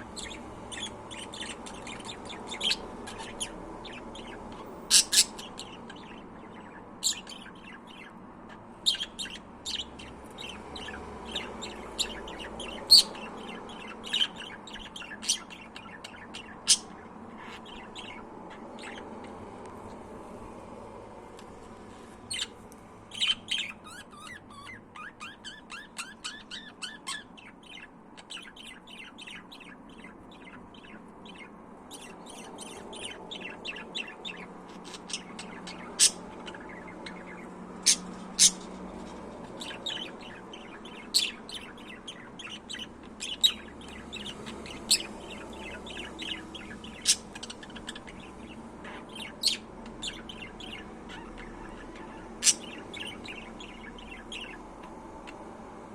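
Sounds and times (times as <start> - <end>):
budgerigars chirping and chattering: 0.0 - 55.8.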